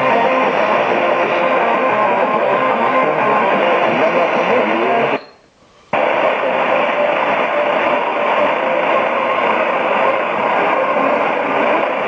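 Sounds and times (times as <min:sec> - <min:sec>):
radio static: 0:00.0 - 0:05.2, 0:05.9 - 0:12.0
faint radio tones: 0:00.0 - 0:12.0.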